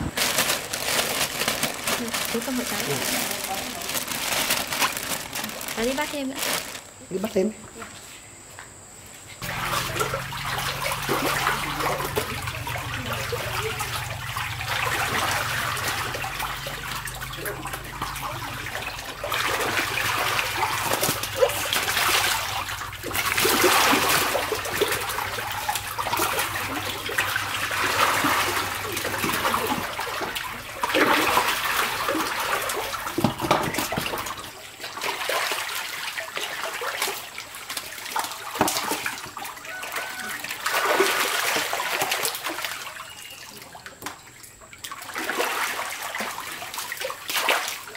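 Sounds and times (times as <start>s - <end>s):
fish thrashing in water: 0.0s - 7.0s, 9.4s - 47.9s
shallow water splashing: 9.4s - 47.9s.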